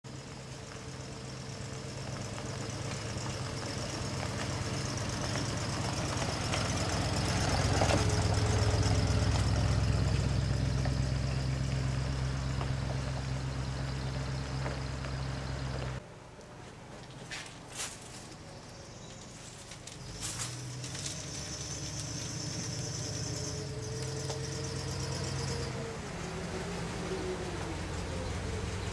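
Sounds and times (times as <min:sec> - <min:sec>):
vehicle engine on gravel road: 0:00.0 - 0:28.9.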